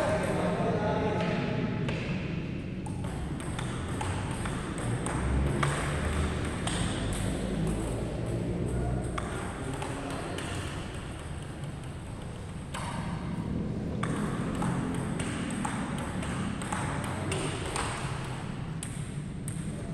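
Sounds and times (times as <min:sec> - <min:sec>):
table tennis ball clicking: 0:02.8 - 0:13.2, 0:14.0 - 0:19.9.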